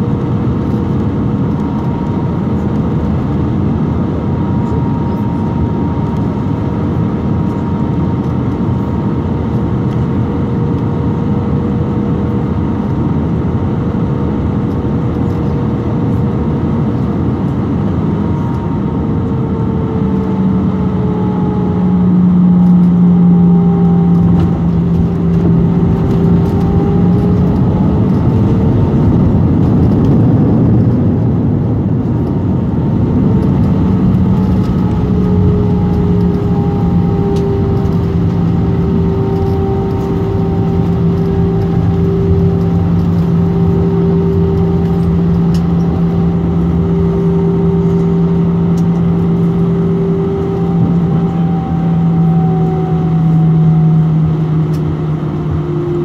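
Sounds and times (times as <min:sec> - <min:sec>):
aircraft engines roaring: 0:00.0 - 0:56.0.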